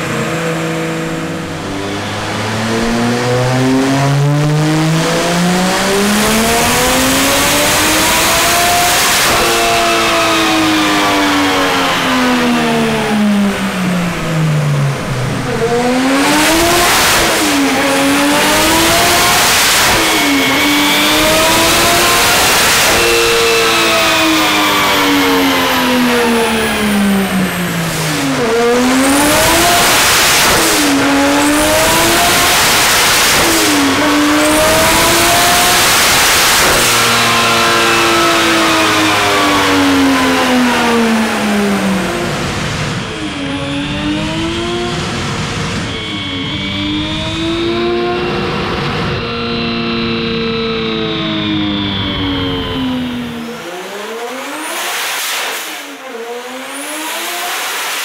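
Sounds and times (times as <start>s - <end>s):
turbocharged engine revving: 0.0s - 58.0s.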